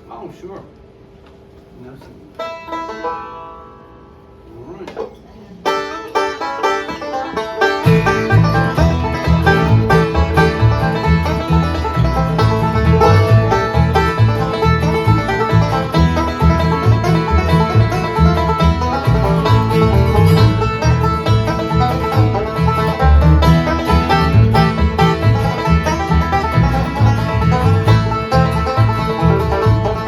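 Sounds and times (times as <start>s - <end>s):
bluegrass band playing: 2.4s - 4.1s, 5.6s - 30.0s
banjo picking: 2.4s - 4.2s, 4.9s - 30.0s.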